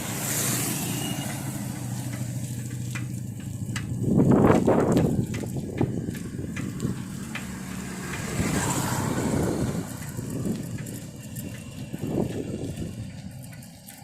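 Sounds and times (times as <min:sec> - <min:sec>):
road traffic noise: 0:00.0 - 0:14.0
vehicle passing: 0:00.0 - 0:14.0
wind rumbling on microphone: 0:01.6 - 0:14.0.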